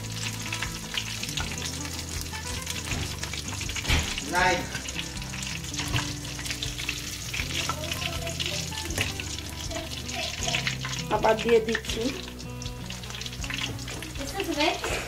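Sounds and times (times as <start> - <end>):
deep-frying sizzle: 0.0 - 15.0.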